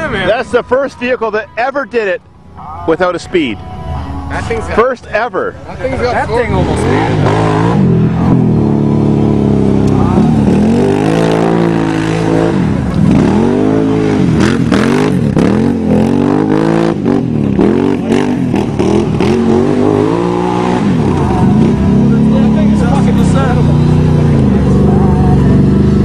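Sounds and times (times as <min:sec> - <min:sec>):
atv engine revving: 0:00.0 - 0:03.6, 0:04.3 - 0:26.0.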